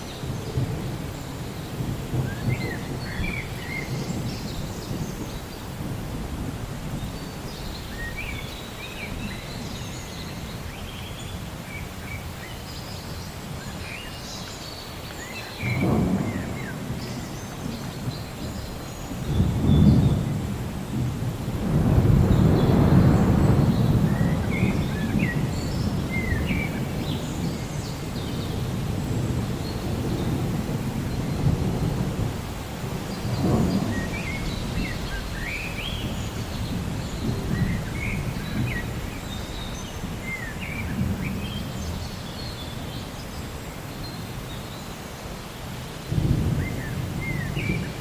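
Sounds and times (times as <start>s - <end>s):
low rolling thunder: 0.0s - 10.8s, 15.6s - 48.0s
steady rain: 0.0s - 48.0s.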